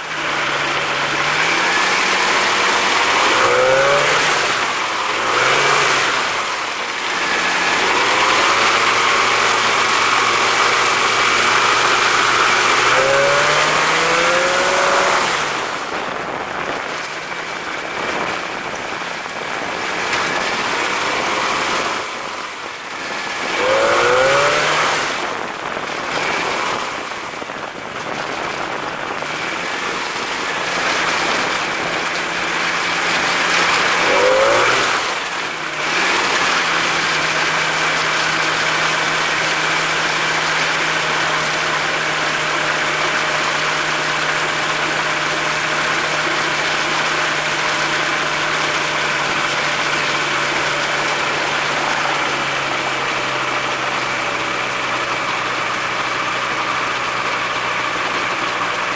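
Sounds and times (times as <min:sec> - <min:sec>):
microlight engine and propeller running: 0:00.0 - 0:58.9.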